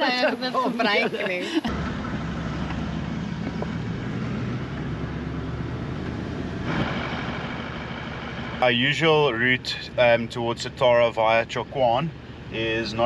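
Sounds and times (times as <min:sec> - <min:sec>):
engine droning: 0:01.7 - 0:13.0.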